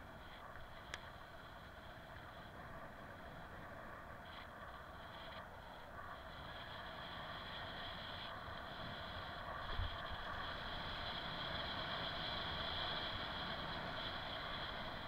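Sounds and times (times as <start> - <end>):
bicycle tyre noise on asphalt: 0.0 - 15.0.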